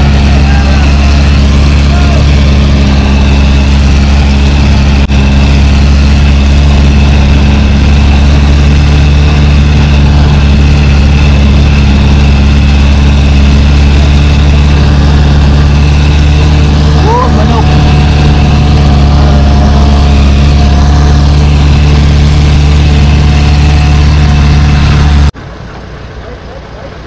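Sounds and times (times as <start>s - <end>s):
vehicle engine drone: 0.0s - 27.0s.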